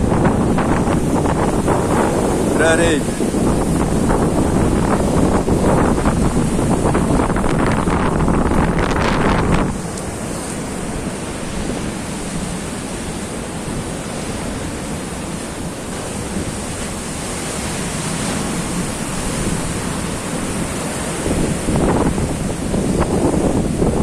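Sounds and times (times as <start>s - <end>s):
sea surf breaking: 0.0s - 24.0s
wind buffeting microphone: 0.0s - 24.0s.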